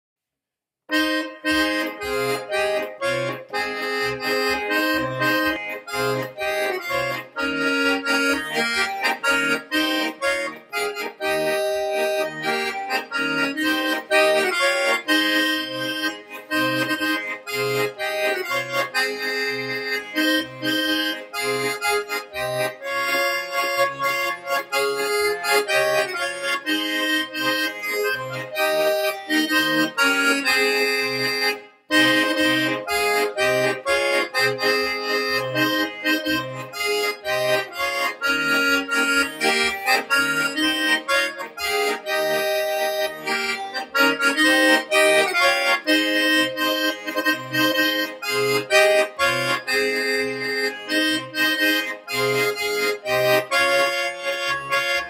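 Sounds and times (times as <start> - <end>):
button accordion playing tune: 0.9 - 55.0.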